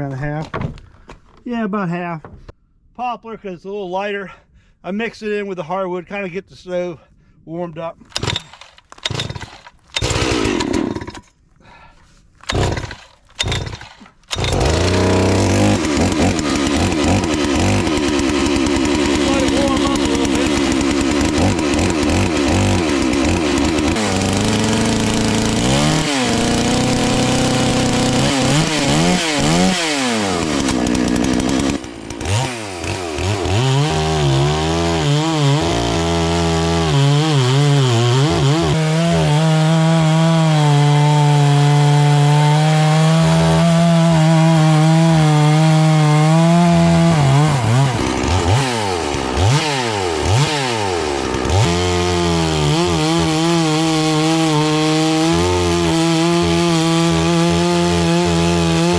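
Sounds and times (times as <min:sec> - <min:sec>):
chainsaw revving and cutting wood: 0:08.1 - 0:11.8, 0:12.4 - 0:58.9.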